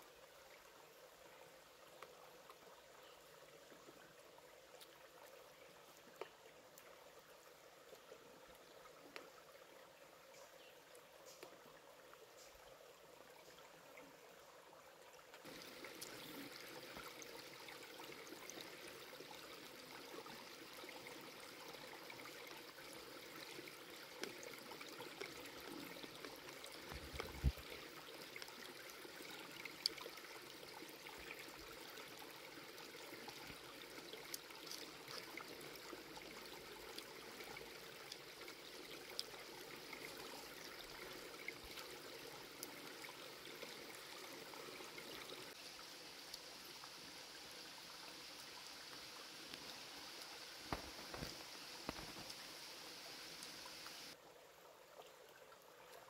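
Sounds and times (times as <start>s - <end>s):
trickling water: 0.0s - 56.0s.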